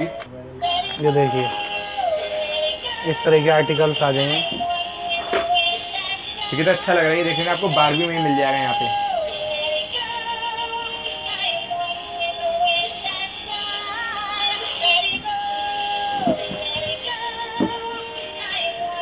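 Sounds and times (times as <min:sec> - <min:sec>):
synthesized singing voice: 0:00.0 - 0:19.0.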